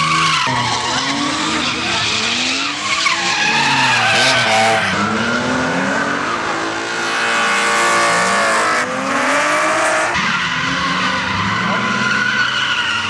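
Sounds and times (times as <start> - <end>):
tyre squeal and skidding: 0.0 - 6.6, 7.4 - 13.0
car engines revving: 0.0 - 13.0.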